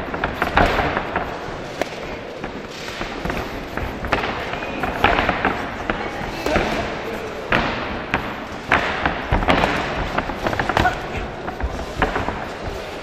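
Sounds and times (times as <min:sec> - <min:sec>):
crowd voices: 0:00.0 - 0:13.0.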